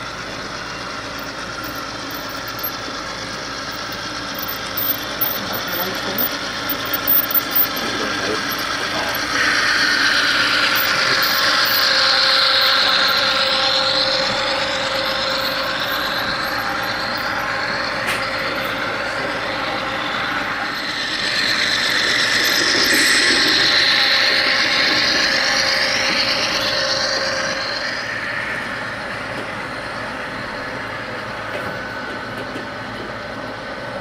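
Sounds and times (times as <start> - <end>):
model locomotive motors running: 0.0 - 34.0
model train wheels on track: 0.0 - 34.0.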